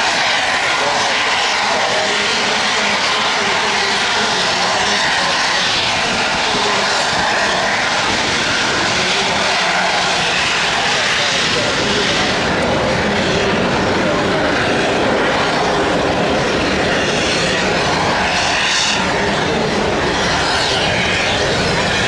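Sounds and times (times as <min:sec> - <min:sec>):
rocket engine exhaust roar: 0:00.0 - 0:22.0.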